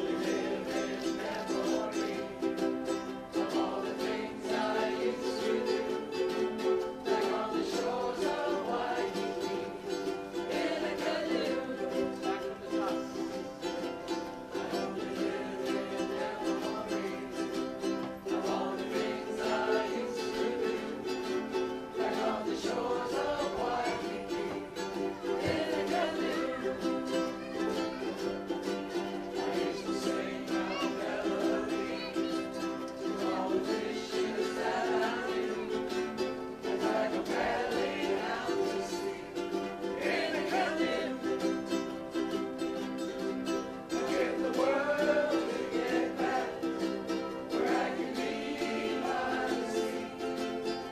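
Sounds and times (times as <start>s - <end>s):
ukuleles strumming chords: 0.0s - 50.9s
voices singing: 0.0s - 50.9s.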